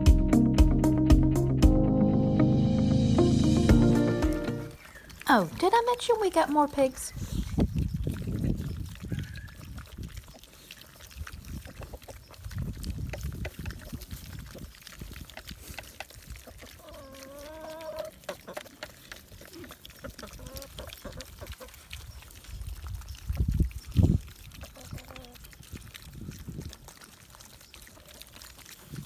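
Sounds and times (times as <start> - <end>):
piglets chewing and rooting: 3.8 - 29.0.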